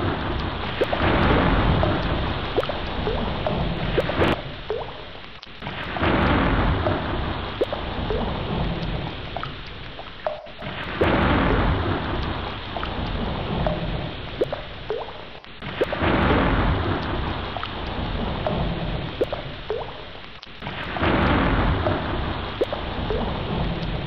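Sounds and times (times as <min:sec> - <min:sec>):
thunder rumbling: 0:00.0 - 0:05.0, 0:05.6 - 0:09.5, 0:10.3 - 0:14.9, 0:15.6 - 0:20.0, 0:20.6 - 0:24.0
heavy rain: 0:00.0 - 0:24.0.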